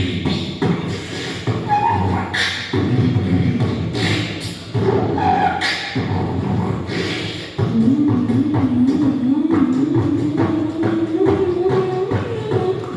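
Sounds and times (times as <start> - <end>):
person beatboxing: 0.0 - 12.9.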